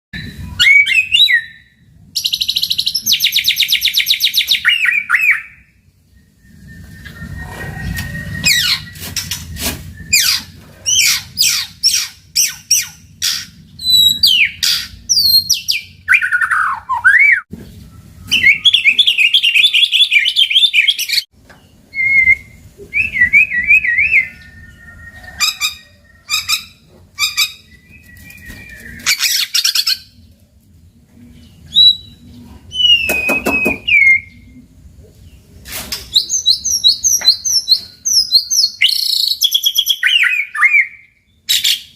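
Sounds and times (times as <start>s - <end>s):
bird singing varied song: 0.2s - 30.3s, 31.0s - 35.5s, 36.1s - 41.9s.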